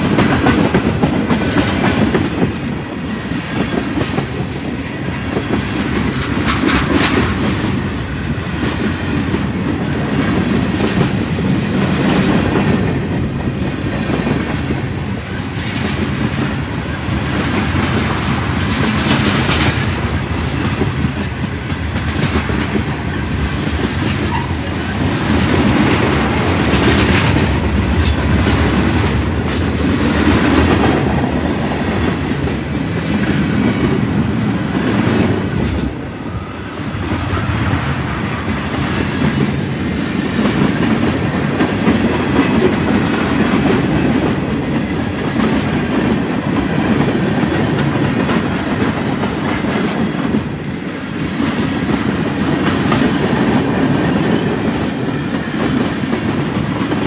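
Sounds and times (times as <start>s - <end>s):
train wheels rumbling and clacking: 0.0s - 57.0s.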